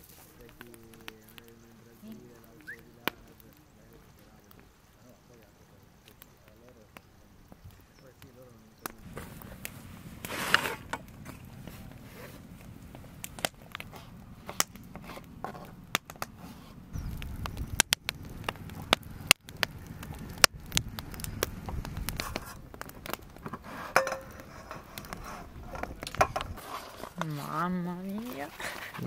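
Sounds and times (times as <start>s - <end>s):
campfire crackling: 0.0s - 29.0s
fire pops and snaps: 0.0s - 29.0s
rush of flames: 0.0s - 29.0s.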